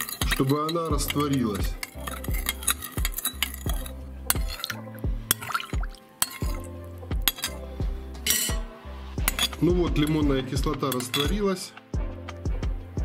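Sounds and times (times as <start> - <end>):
metal spoon clinking glass bowl: 0.0 - 11.5.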